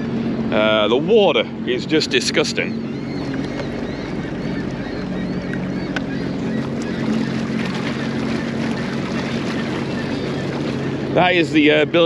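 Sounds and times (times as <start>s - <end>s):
water washing along hull: 0.0s - 12.0s
watercraft engine running: 0.0s - 12.0s.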